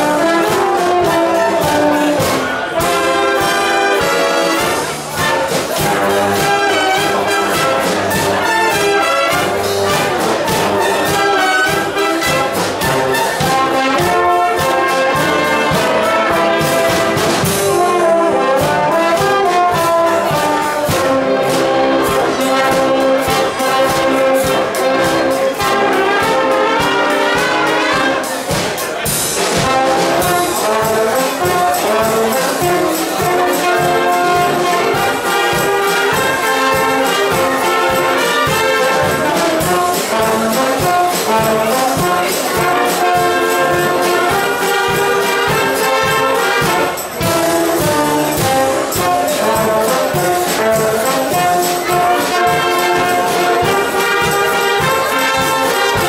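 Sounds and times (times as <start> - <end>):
percussion beat: 0.0 - 56.0
wind orchestra playing latin music: 0.0 - 56.0.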